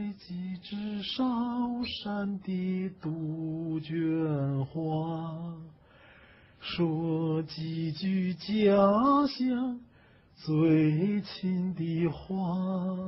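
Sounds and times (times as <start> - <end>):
man singing unaccompanied: 0.0 - 5.8, 6.6 - 13.0.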